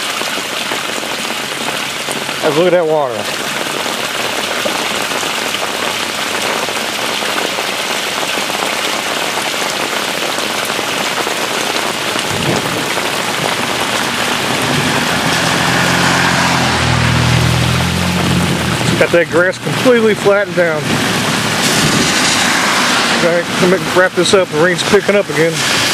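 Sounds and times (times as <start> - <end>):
water rushing and splashing: 0.0 - 25.9.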